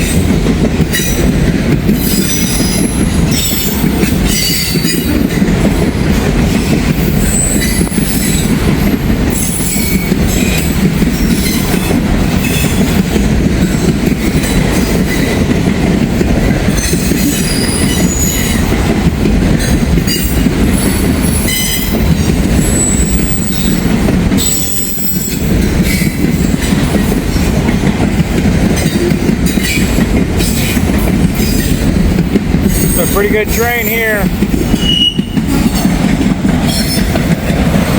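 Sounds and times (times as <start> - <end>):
train wheels rumbling on rail: 0.0 - 37.9
wheels clacking over rail joints: 0.0 - 37.9.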